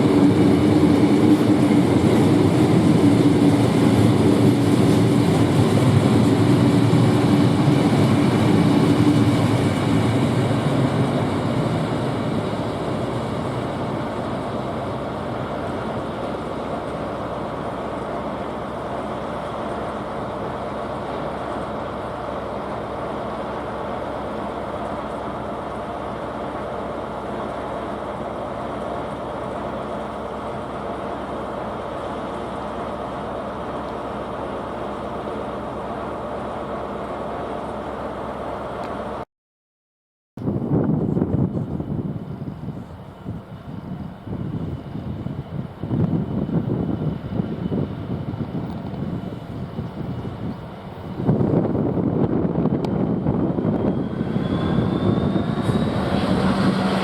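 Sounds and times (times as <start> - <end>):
diesel locomotive engine: 0.0 - 39.2, 40.4 - 57.0
train wagons rumbling on track: 0.0 - 39.2, 40.5 - 57.0.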